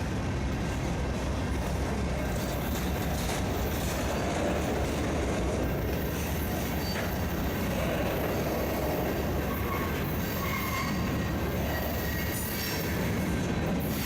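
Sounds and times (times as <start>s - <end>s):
freight train cars rolling on rails: 0.0s - 14.0s.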